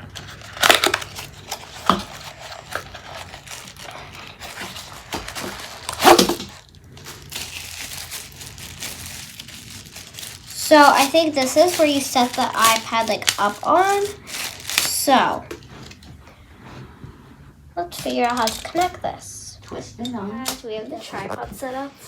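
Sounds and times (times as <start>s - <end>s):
packaging crinkling and rustling: 0.0s - 16.1s, 17.9s - 19.0s, 20.4s - 21.9s.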